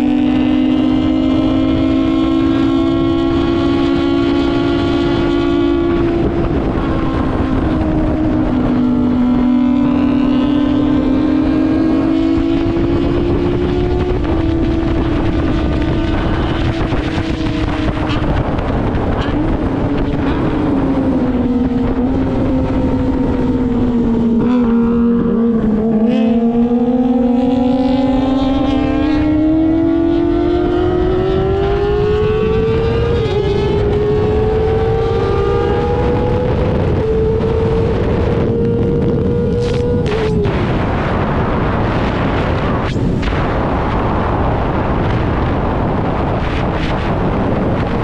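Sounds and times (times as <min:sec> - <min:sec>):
motorcycle engine revving: 0:00.0 - 0:48.0
wind rushing: 0:00.0 - 0:48.0.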